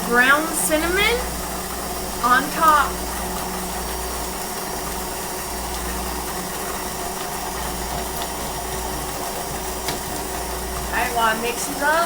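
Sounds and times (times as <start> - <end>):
electric mixer motor whirring: 0.0 - 12.0.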